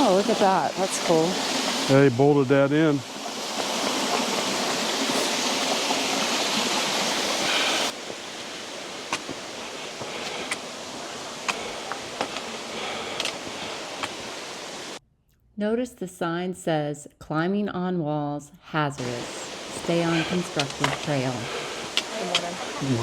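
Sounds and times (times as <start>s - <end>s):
mountain stream rushing: 0.0s - 15.0s, 19.0s - 23.0s.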